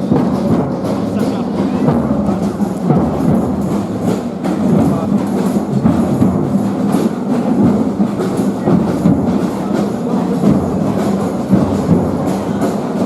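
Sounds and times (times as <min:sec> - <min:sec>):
music with percussion: 0:00.0 - 0:13.0.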